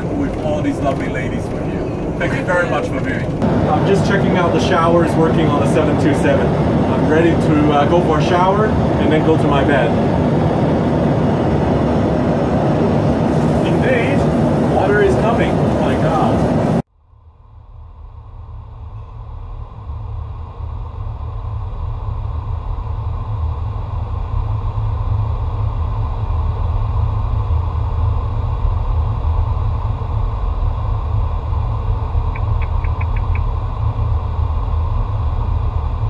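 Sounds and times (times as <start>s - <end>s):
aircraft engines rumbling: 0.0s - 36.0s.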